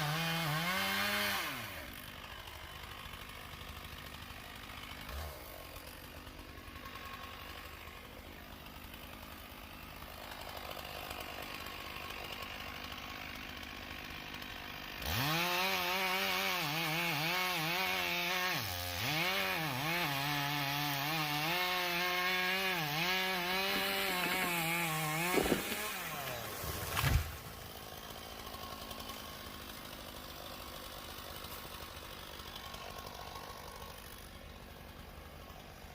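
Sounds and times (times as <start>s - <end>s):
chainsaw cutting log: 0.0s - 35.9s.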